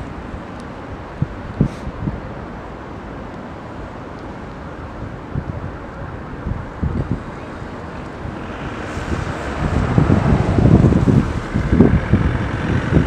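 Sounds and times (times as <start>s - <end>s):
wind buffeting microphone: 0.0s - 3.0s, 4.2s - 13.0s.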